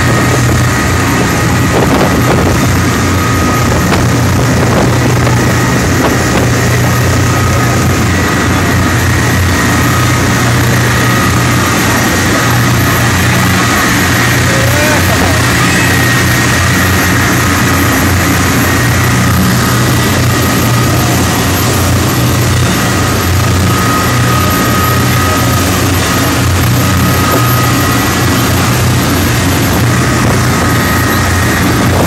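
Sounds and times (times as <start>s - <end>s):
boat engine running: 0.0s - 32.0s
storm wind: 0.0s - 32.0s.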